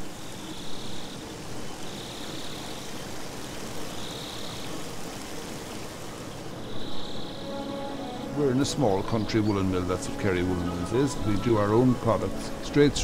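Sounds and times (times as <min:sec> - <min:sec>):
water rushing: 0:01.1 - 0:13.0.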